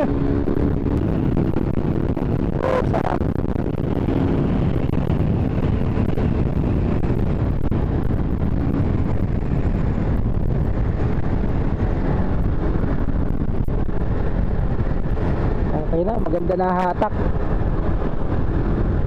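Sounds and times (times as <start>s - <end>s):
motorcycle engine running: 0.0s - 15.7s
wind on microphone: 0.0s - 19.0s.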